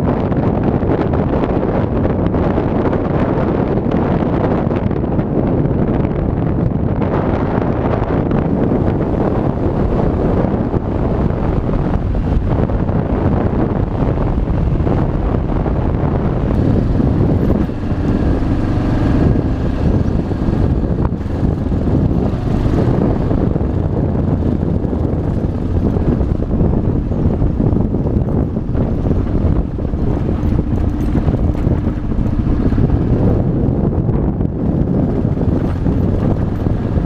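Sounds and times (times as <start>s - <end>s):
motorcycle engine running: 0.0s - 37.0s
wind noise on microphone: 0.0s - 37.0s.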